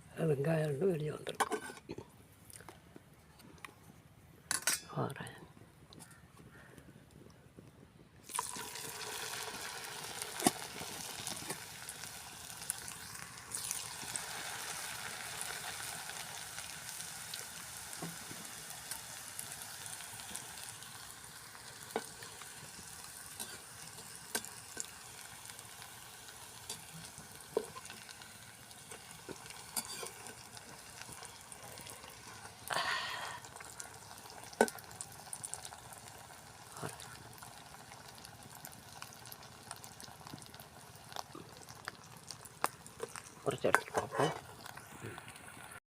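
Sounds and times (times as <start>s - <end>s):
food deep-frying in oil: 8.2s - 45.8s.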